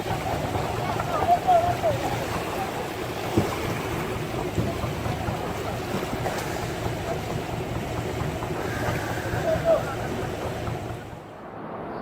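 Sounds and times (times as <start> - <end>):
rough sea water rushing: 0.0 - 11.8.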